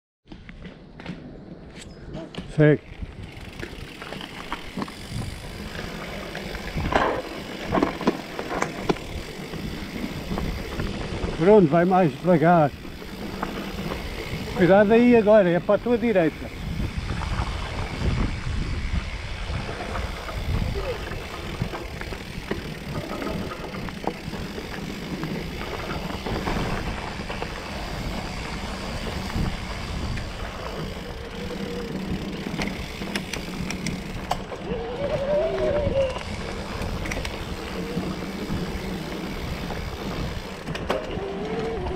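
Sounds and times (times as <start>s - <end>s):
bike tyres rolling on dirt: 0.3s - 41.9s
bike knocking and rattling: 2.2s - 41.9s.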